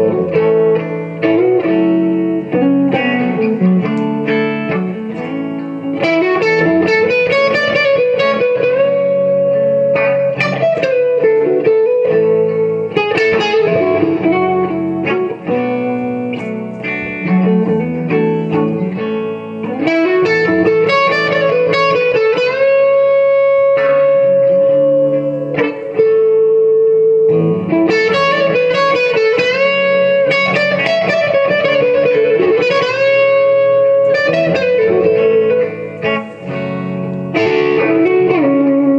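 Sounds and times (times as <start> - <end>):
electric guitar lead solo: 0.0 - 38.9.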